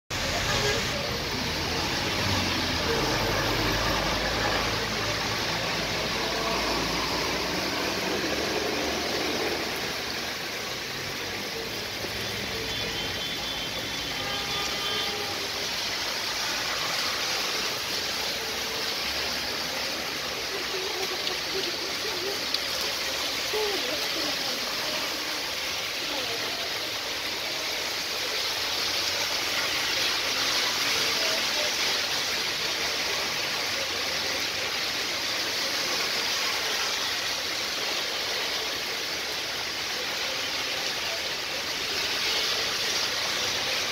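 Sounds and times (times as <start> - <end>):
heavy rain: 0.1 - 43.9
tyres hissing on wet road: 0.1 - 43.9.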